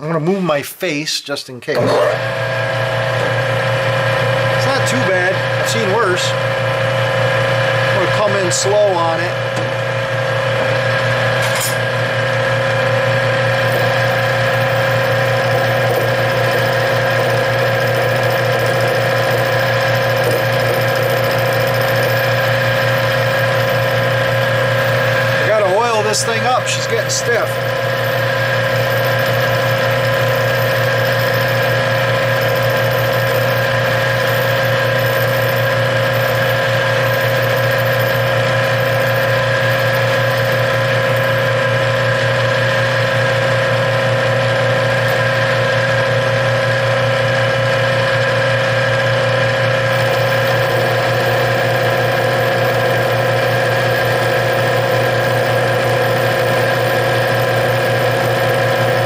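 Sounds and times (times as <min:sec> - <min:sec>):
metal lathe humming: 0:01.8 - 0:59.0.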